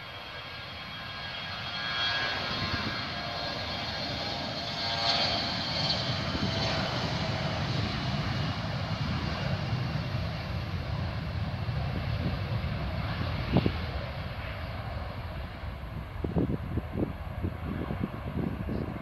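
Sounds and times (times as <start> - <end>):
jet engine rumble: 0.0 - 19.0
wind buffeting microphone: 1.1 - 19.0.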